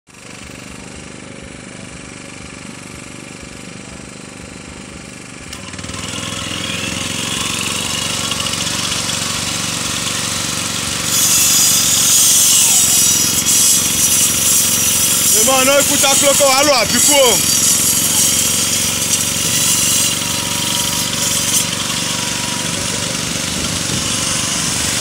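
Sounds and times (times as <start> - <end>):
angle grinder cutting concrete: 3.2 - 25.0.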